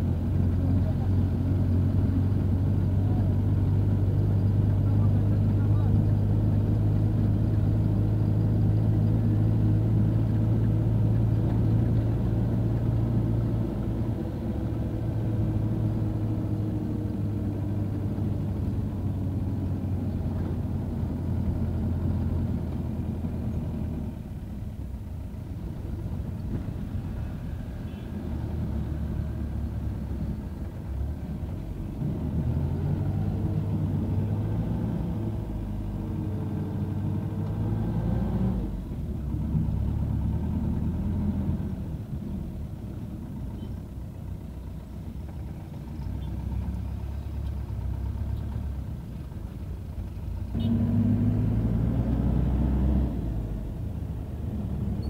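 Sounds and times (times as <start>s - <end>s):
bus engine and road drone: 0.0s - 55.0s.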